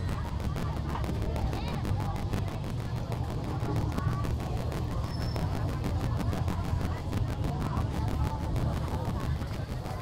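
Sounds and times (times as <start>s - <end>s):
faint voices: 0.0s - 10.0s
traffic rumble: 0.0s - 10.0s.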